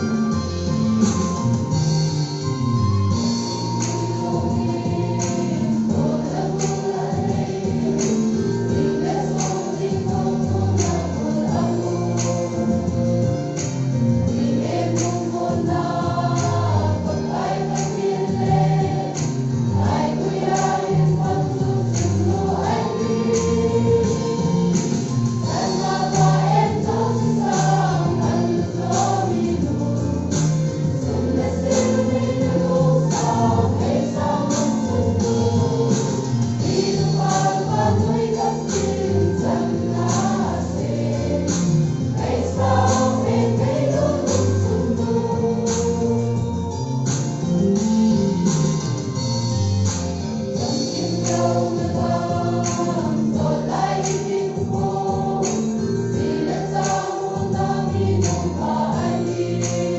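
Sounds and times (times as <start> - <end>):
children's choir singing gospel: 0.0 - 48.4, 49.8 - 59.9.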